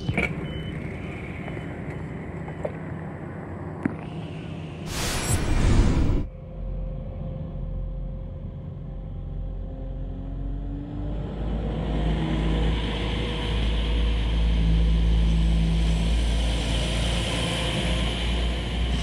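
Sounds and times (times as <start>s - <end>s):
diesel train engines accelerating: 0.0s - 19.0s.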